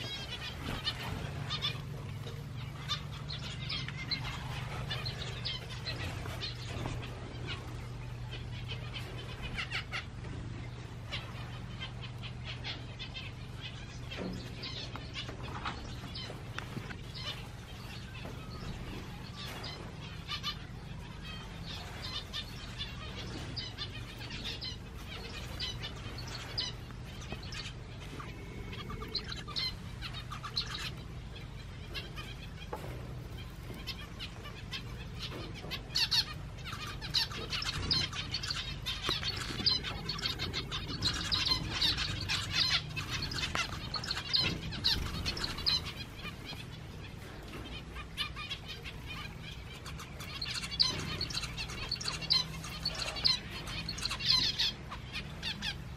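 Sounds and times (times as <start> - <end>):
finches chirping: 0.0 - 55.9.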